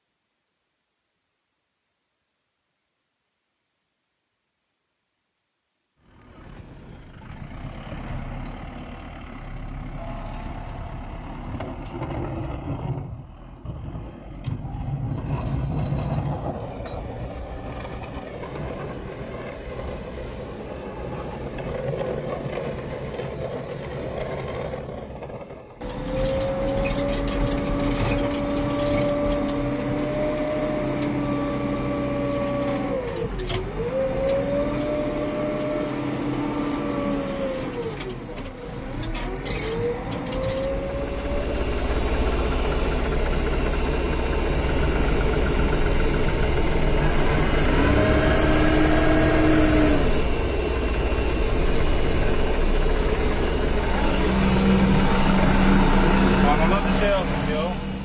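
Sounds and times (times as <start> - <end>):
deep engine running: 6.1 - 58.0
tractor pushing snow: 6.1 - 58.0
wheel loader engine whine: 6.1 - 58.0.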